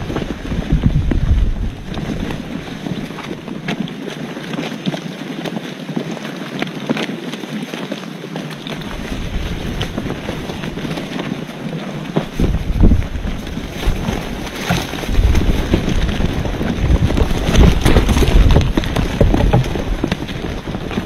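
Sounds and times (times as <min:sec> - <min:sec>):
wind rumbling on the microphone: 0:00.0 - 0:21.0.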